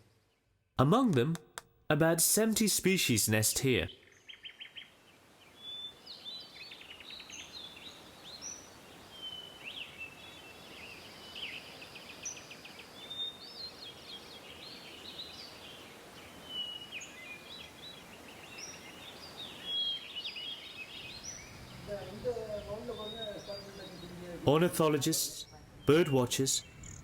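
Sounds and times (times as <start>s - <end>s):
steady background hiss: 0.0s - 27.0s
birds chirping and trilling: 3.3s - 27.0s.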